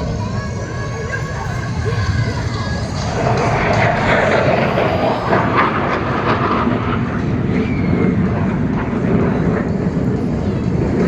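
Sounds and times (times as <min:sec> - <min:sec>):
fighter jets flying past: 0:00.0 - 0:11.0.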